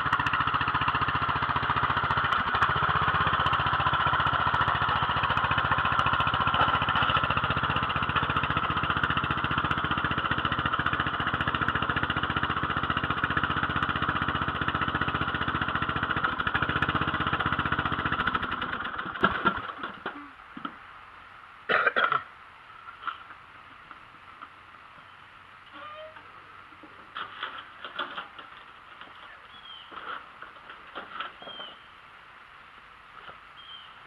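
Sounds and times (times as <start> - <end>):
lawn tractor engine running: 0.0 - 21.2, 22.8 - 31.9.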